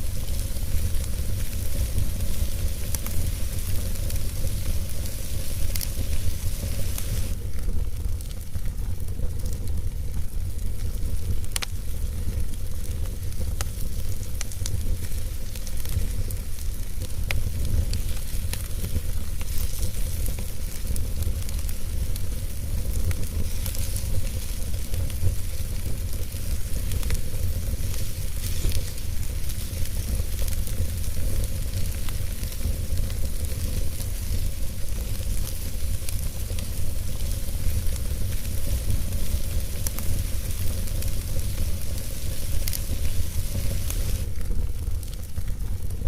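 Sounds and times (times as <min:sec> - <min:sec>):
fire crackles and pops: 0:00.0 - 0:46.0
fire rumbling and hissing: 0:00.0 - 0:46.0.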